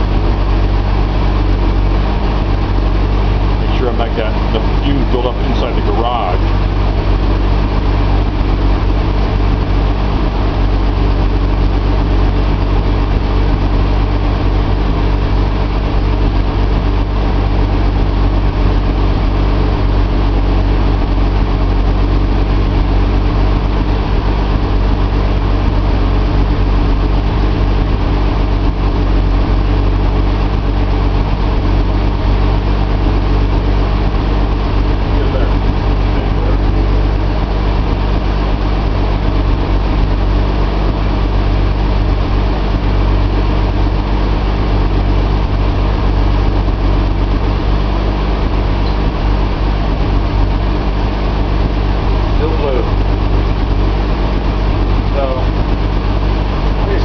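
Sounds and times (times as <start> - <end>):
car engine running steadily: 0.0 - 57.0.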